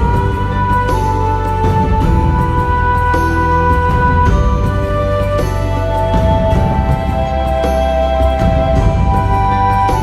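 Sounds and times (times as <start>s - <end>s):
soft slow background music: 0.0s - 10.0s.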